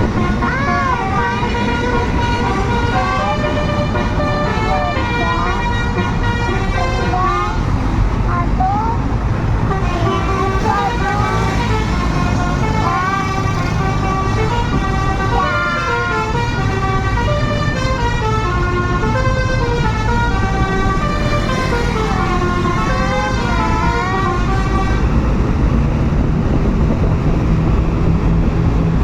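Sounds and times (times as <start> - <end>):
bus horn warbling melody: 0.0 - 7.9, 9.6 - 25.2
low vehicle rumble: 0.0 - 29.0.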